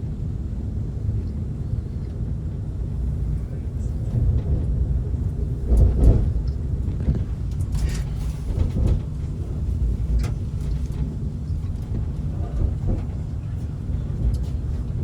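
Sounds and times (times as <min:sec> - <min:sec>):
train rumble inside carriage: 0:00.0 - 0:15.0.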